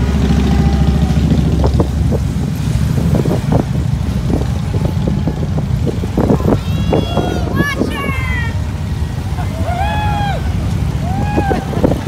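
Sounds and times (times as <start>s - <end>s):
car passing: 0.0s - 12.0s
motorcycles riding past: 0.0s - 12.0s.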